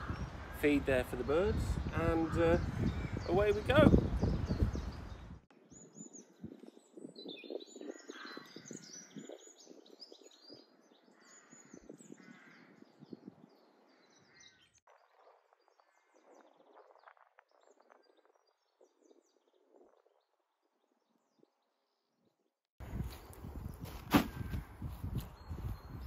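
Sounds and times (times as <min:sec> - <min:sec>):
songbirds chirping: 0:00.0 - 0:14.8, 0:17.5 - 0:26.0.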